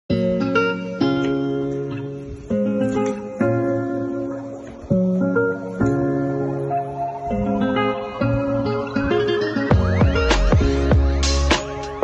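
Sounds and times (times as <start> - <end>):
acoustic guitar chords: 0.1 - 12.0.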